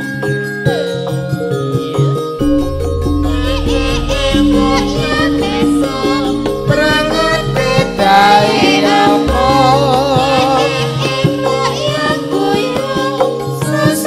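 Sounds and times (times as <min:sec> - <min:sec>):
person singing wavering melody: 0:02.4 - 0:14.0.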